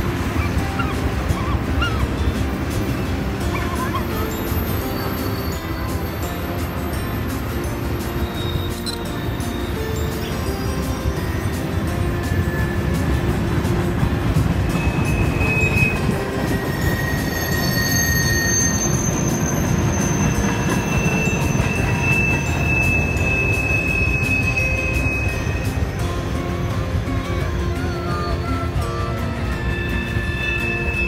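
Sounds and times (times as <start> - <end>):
clicking train wheels: 0.0 - 31.0
freight train rumble: 0.0 - 31.0
high-pitched wheel squeals: 0.0 - 31.0.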